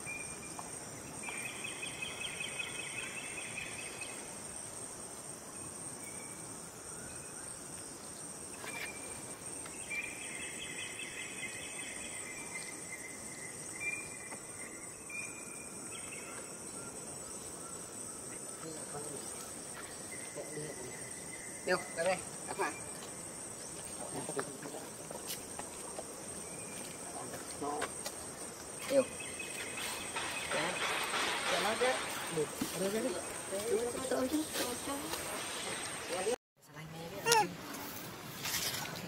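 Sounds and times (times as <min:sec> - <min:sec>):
insect high-pitched whine: 0:00.0 - 0:38.8.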